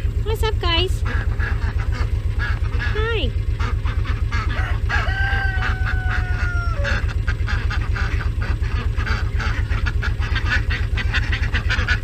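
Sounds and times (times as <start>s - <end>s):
low pulsing hum: 0.0s - 12.0s
ducks quacking: 0.4s - 12.0s.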